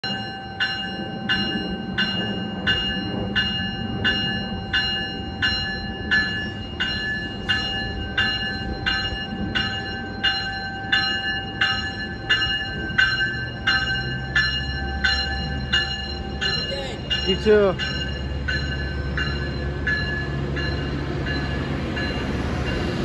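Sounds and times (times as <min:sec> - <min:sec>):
locomotive bell ringing: 0:00.0 - 0:23.0
locomotive engine rumble: 0:00.2 - 0:23.0.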